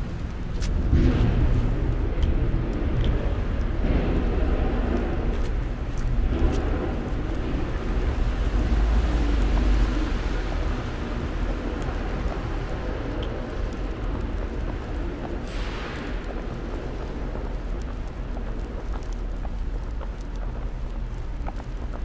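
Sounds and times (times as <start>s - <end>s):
city street noise: 0.0s - 22.0s
wind buffeting microphone: 0.0s - 22.0s.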